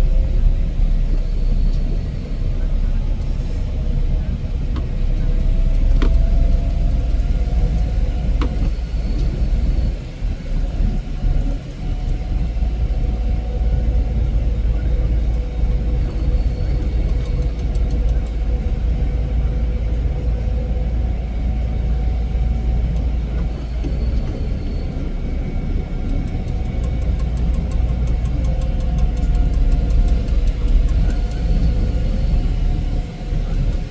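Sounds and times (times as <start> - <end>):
heavy machine engine rumble: 0.0 - 33.9
mechanical whine: 0.0 - 33.9.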